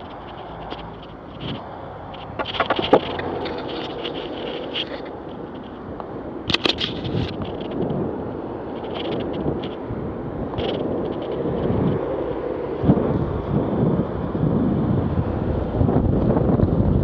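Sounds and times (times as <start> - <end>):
longboard wheels rumbling: 0.0 - 17.0
wind buffeting microphone: 0.0 - 17.0.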